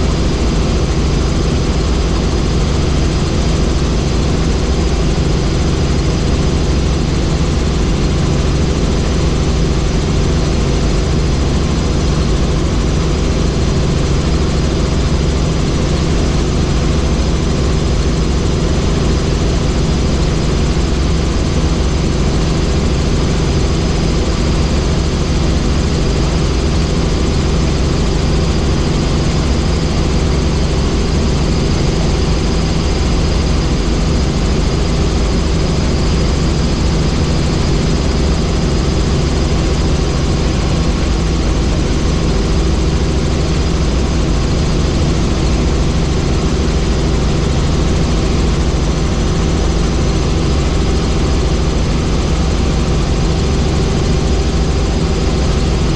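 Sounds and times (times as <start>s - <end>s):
helicopter engine and rotors drone: 0.0s - 55.9s.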